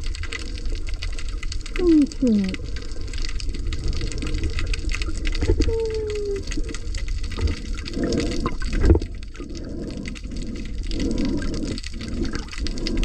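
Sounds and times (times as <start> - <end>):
water sloshing and gurgling: 0.0 - 13.0.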